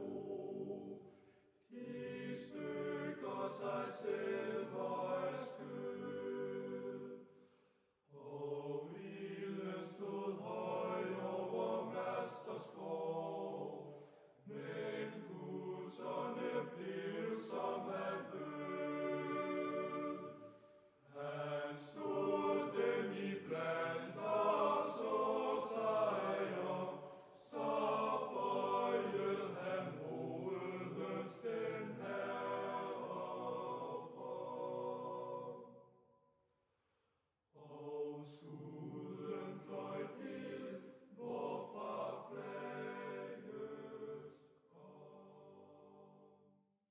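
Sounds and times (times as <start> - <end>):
choir chanting: 0.0 - 7.4, 8.1 - 35.9, 37.6 - 46.4.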